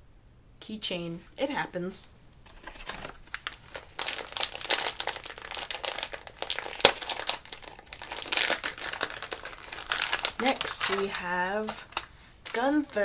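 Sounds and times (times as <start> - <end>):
foil packet crinkling: 2.5 - 13.0.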